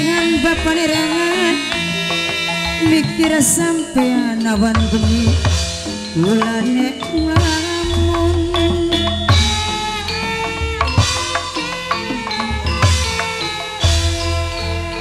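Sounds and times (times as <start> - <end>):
ringing metal-keyed instruments: 0.0 - 15.0
sliding melody: 0.0 - 15.0
steady drum beats: 0.0 - 15.0.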